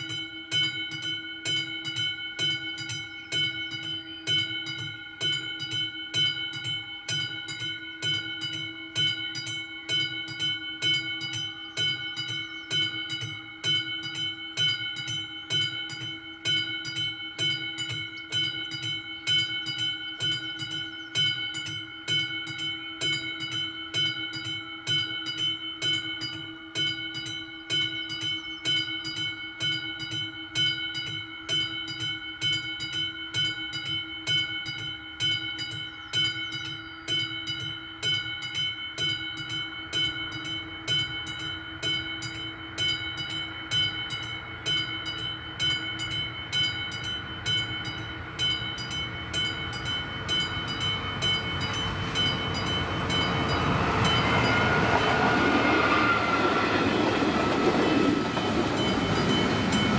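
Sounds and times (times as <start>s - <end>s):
level-crossing warning bell ringing: 0.0s - 59.9s.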